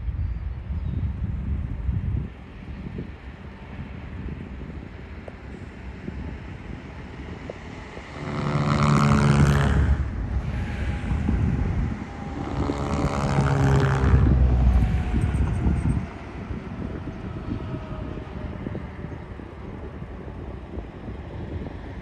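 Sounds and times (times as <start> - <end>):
vehicle engine and road noise: 0.0 - 22.0
wind: 0.0 - 22.0.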